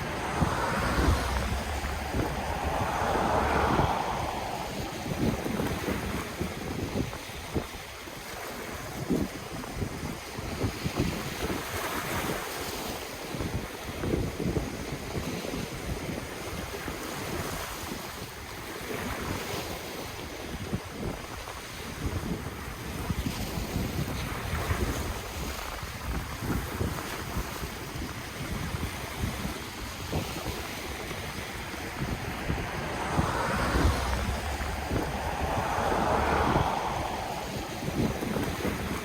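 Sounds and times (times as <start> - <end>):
ocean waves breaking on shore: 0.0 - 39.0
wind rumble on microphone: 0.0 - 39.0.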